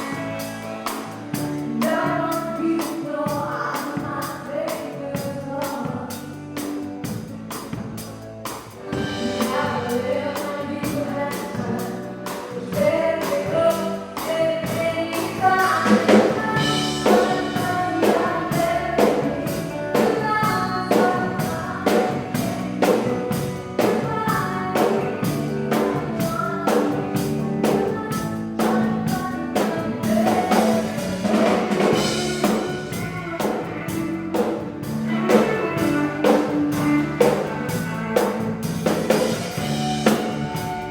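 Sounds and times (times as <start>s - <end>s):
person singing: 0.0s - 6.8s, 8.9s - 38.5s
country band playing: 0.0s - 40.9s
drum kit beat: 0.0s - 40.9s.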